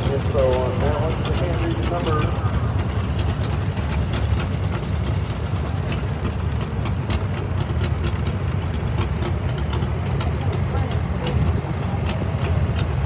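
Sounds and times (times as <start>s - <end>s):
quick engine ticks: 0.0s - 13.0s
tractor engines droning: 0.0s - 13.0s.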